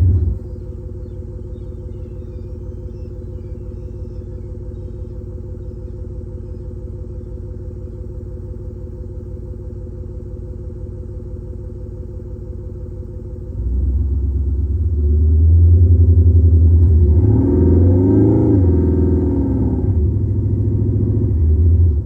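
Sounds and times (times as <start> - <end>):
simulated exhaust rumble idling: 0.0 - 22.0.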